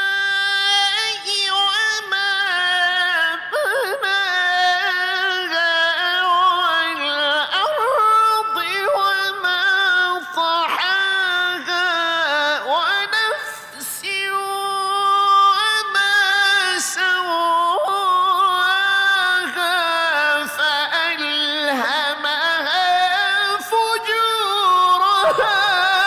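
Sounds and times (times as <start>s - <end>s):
man reciting in melodic chant: 0.0s - 26.0s.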